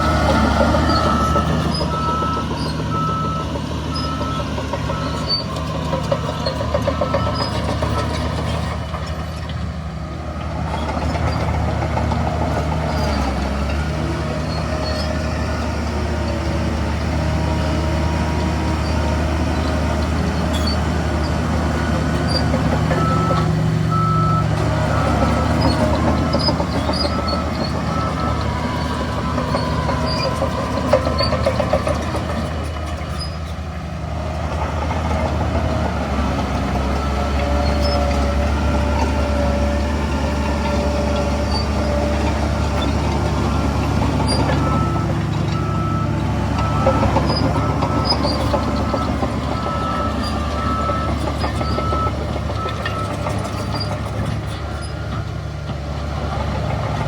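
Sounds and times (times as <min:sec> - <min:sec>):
truck reversing alarm beeps: 0:00.0 - 0:09.3, 0:10.6 - 0:33.5, 0:35.0 - 0:55.5
heavy diesel engines running: 0:00.0 - 0:57.0.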